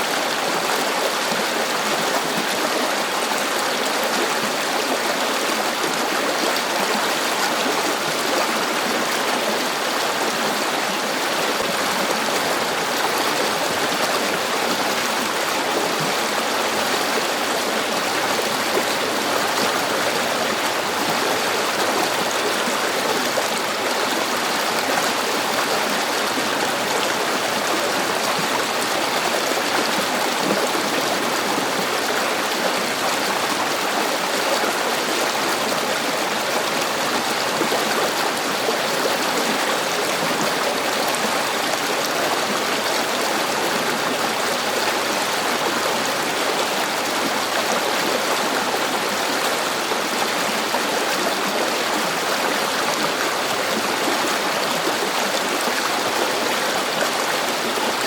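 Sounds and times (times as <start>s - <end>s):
river water burbling over stones: 0.0s - 58.0s.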